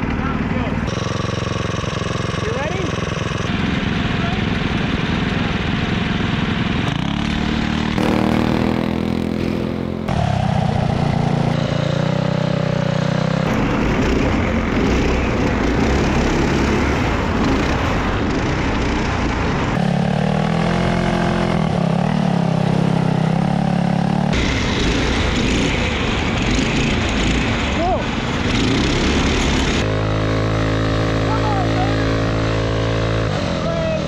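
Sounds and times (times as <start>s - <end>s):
go-kart engines revving: 0.0s - 34.0s.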